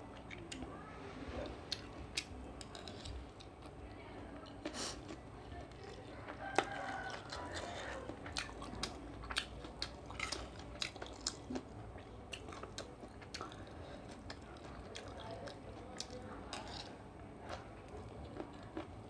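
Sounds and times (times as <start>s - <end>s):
person chewing food: 1.7s - 3.8s, 4.4s - 19.0s.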